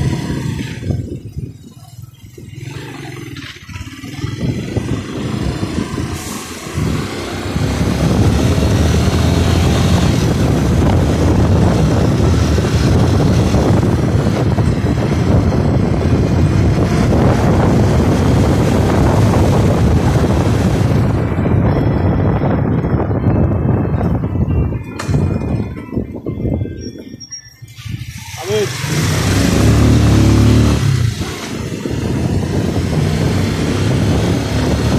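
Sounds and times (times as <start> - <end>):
motorcycle engine running: 0.0 - 27.0, 28.0 - 34.9
wind on microphone: 0.0 - 34.9.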